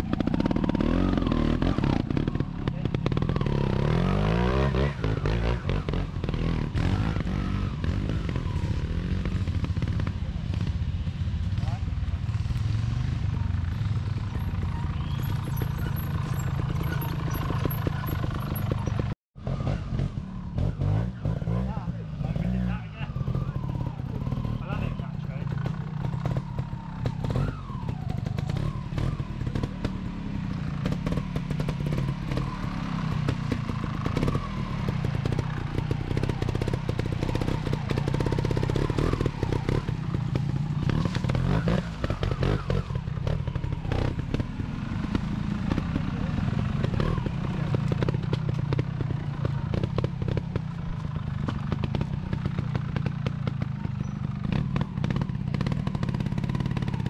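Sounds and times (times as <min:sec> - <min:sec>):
two-stroke engine revving: 0:00.0 - 0:10.8, 0:11.6 - 0:57.0.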